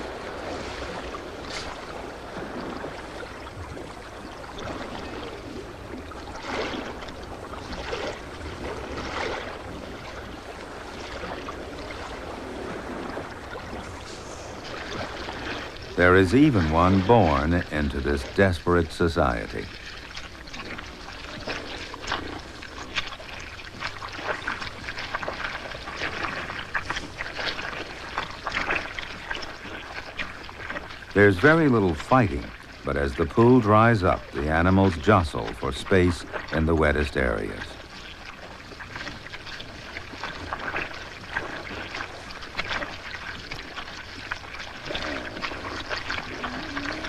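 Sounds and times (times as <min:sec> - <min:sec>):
hippos splashing in mud: 0:00.0 - 0:47.0.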